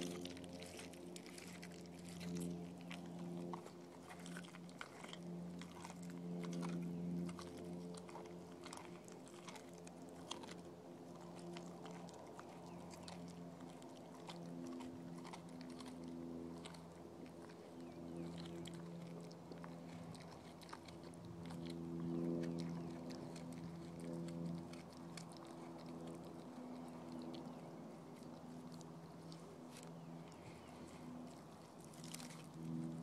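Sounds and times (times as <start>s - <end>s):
dog chewing meat: 0.0s - 33.0s
low hum: 0.0s - 33.0s.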